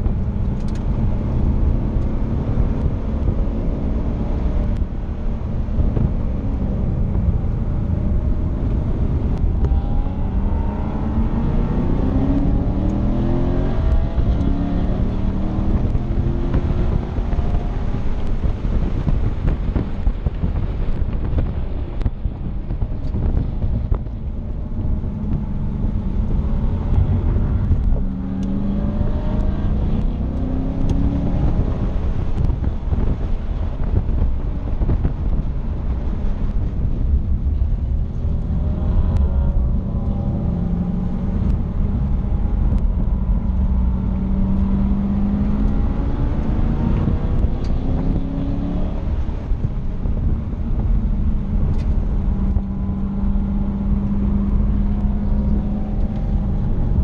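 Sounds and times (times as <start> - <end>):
car engine pulling hard: 0.0 - 57.0.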